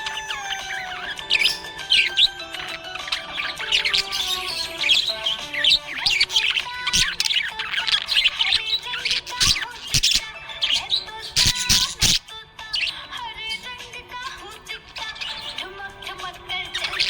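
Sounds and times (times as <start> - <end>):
background music: 0.0 - 17.0
parrots chirping and twittering: 0.0 - 17.0.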